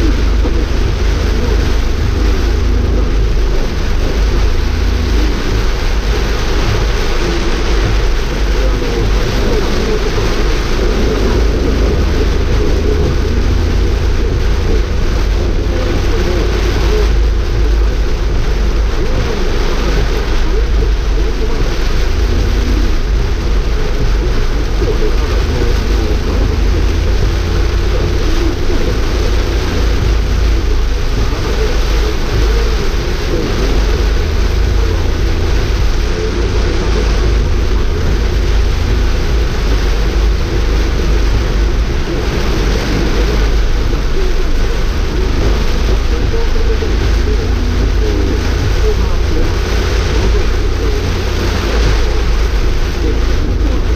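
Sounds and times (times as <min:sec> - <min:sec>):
low rumble: 0:00.0 - 0:53.9
rain on car roof: 0:00.0 - 0:53.9
tyres on flooded road: 0:00.0 - 0:53.9.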